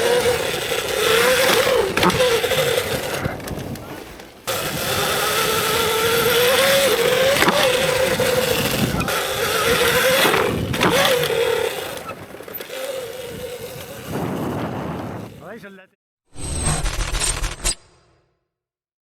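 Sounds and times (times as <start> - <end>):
electric motor whining: 0.0 - 15.4.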